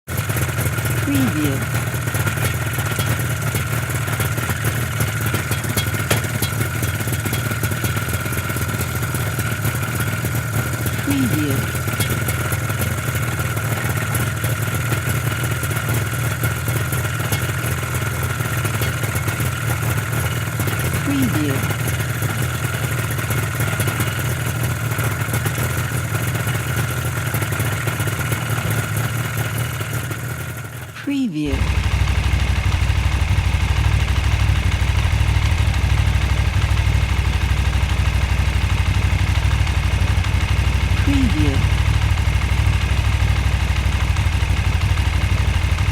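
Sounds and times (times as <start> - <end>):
motorcycle engine idling: 0.1 - 31.0, 31.6 - 45.9.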